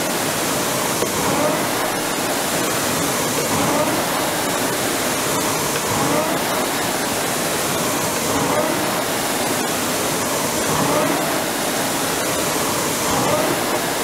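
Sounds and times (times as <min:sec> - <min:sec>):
rowing machine flywheel whirring: 0:00.0 - 0:14.0.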